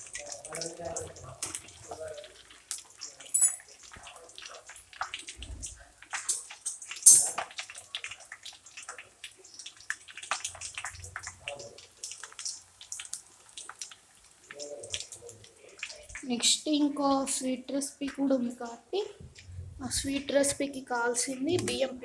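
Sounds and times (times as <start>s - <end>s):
snacks sizzling in hot oil: 0.0s - 22.0s.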